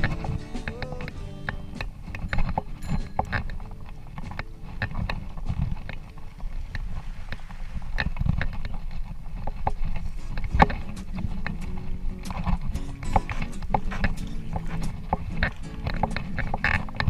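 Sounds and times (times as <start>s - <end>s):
bike rattles and knocks: 0.0s - 17.0s
tyres rumbling on dirt: 0.0s - 17.0s.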